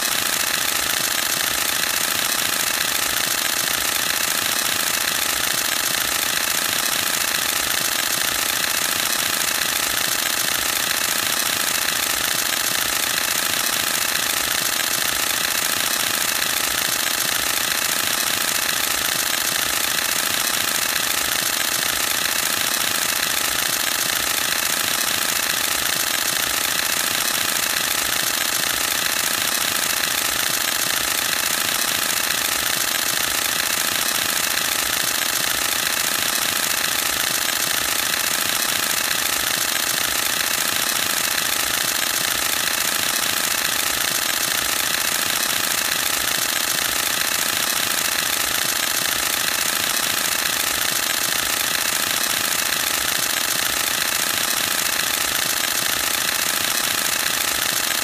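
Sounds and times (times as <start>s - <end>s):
camera shutter burst clatter: 0.0s - 58.0s.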